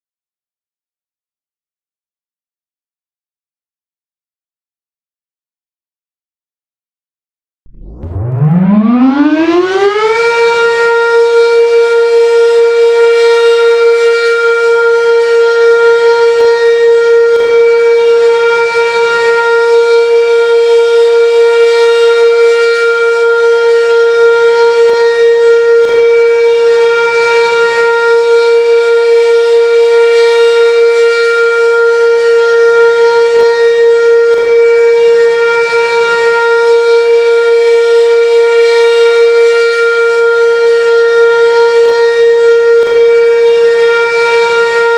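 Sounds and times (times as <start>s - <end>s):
warning siren steady tone: 7.7s - 44.9s.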